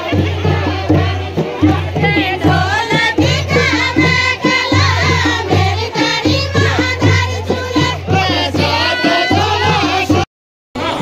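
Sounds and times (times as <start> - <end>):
steady drum beat: 0.0 - 10.2
folk song sung in chorus: 0.0 - 11.0.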